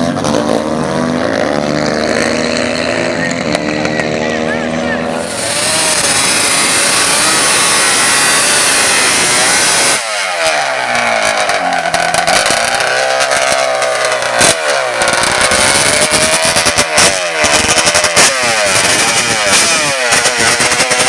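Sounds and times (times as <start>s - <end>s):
racing atv engine revving: 0.0s - 21.0s.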